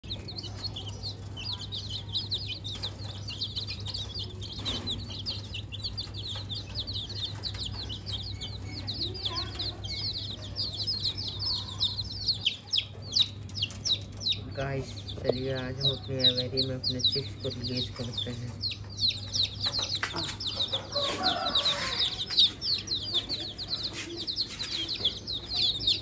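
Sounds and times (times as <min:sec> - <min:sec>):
budgerigars chirping and chattering: 0:00.0 - 0:26.0.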